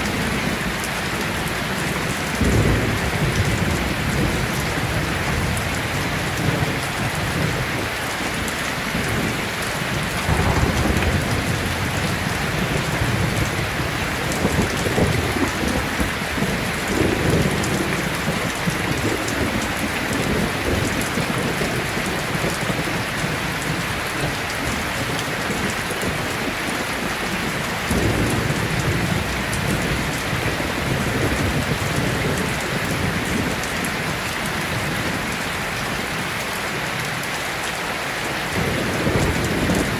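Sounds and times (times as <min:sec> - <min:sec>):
thunder rumbling: 0:00.0 - 0:35.8
heavy rain: 0:00.0 - 0:39.9.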